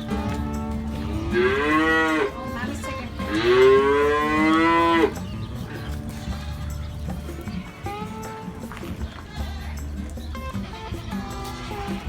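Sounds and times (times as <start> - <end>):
cow mooing: 0.0 - 9.8, 10.5 - 12.0.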